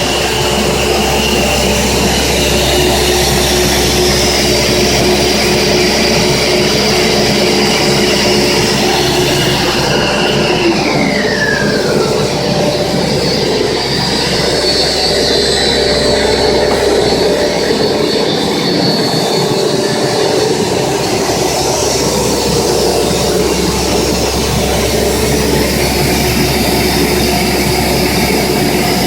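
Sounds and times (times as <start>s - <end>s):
pipe extrusion machine running: 0.0s - 29.0s.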